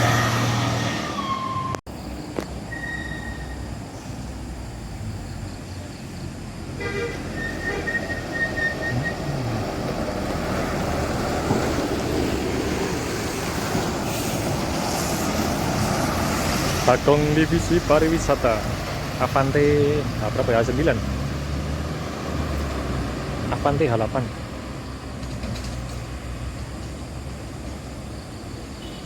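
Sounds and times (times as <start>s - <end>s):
heavy road traffic: 0.0s - 29.0s.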